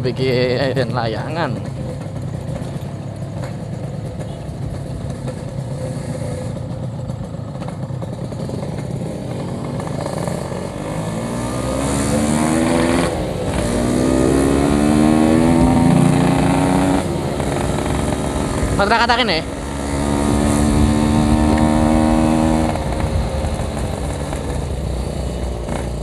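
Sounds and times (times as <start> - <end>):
two-stroke motorcycle engine accelerating: 0.0 - 26.0.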